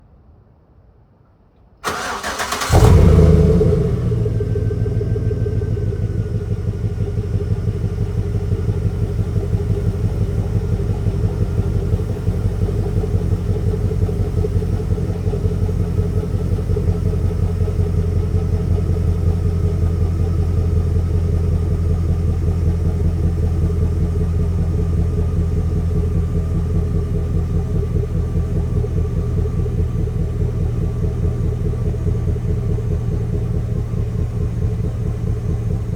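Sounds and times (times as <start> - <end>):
van engine idling with misfire: 1.8 - 35.9.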